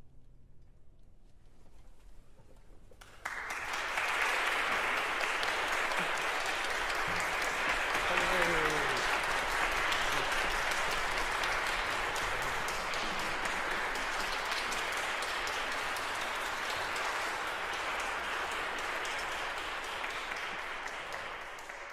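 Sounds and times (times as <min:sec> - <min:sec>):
audience applauding: 0:03.0 - 0:21.9.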